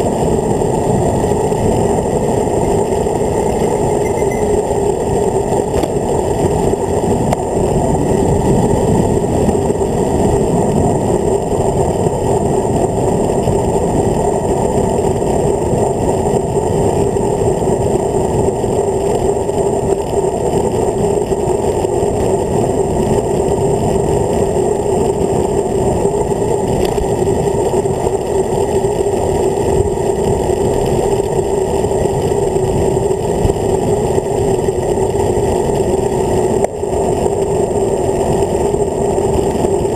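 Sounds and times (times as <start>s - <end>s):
muffled wind rush on microphone: 0.0s - 39.9s.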